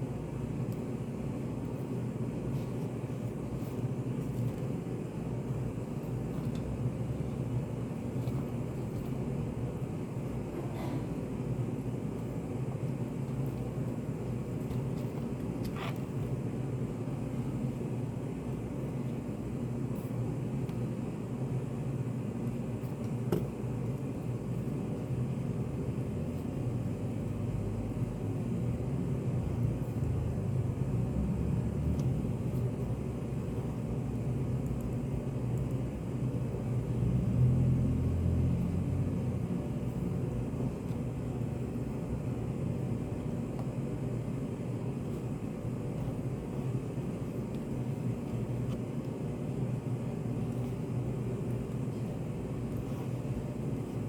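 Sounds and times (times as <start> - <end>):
low room noise rumble: 0.0 - 54.0.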